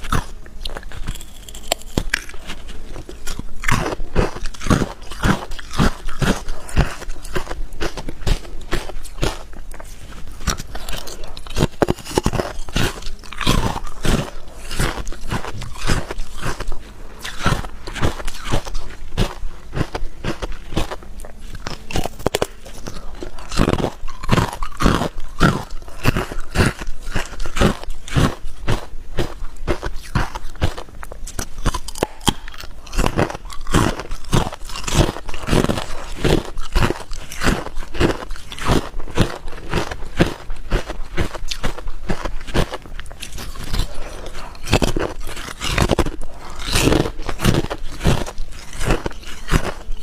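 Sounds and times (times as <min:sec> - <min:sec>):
person crunching ice: 0:00.0 - 0:50.0.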